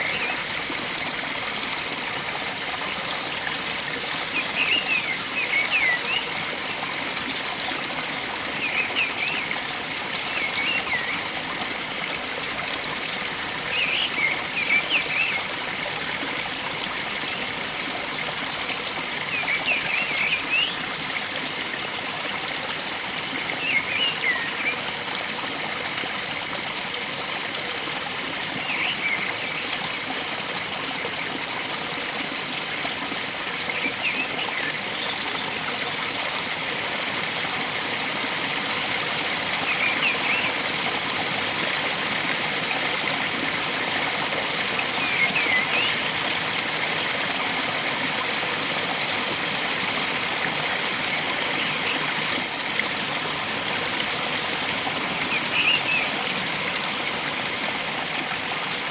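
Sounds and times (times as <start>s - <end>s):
stream rushing: 0.0s - 58.9s.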